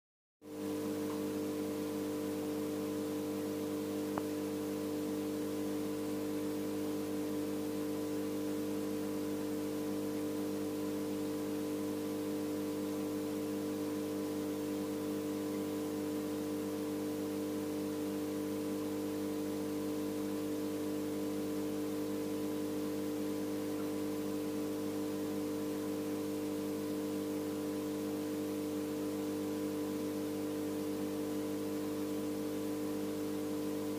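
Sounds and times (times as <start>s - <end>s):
aquarium pump humming: 0.5s - 33.9s.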